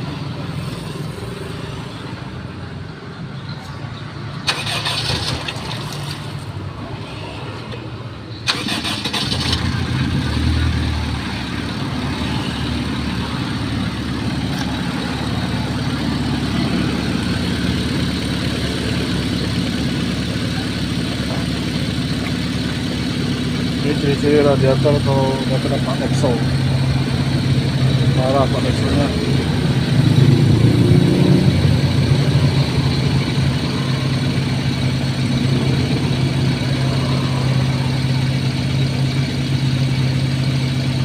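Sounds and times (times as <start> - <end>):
car engine starting and running: 0.0 - 41.0.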